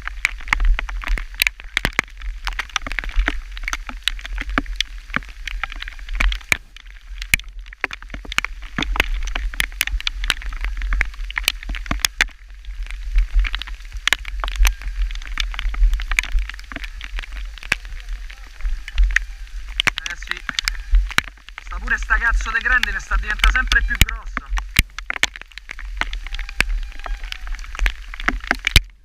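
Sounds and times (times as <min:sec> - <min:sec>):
hailstones pelting: 0:00.0 - 0:29.0
steady low rumble: 0:03.4 - 0:29.0.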